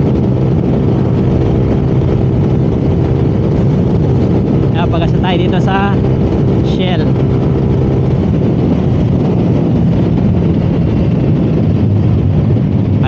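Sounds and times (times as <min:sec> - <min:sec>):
scooter engine running: 0:00.0 - 0:13.0
wind rushing over microphone: 0:00.0 - 0:13.0.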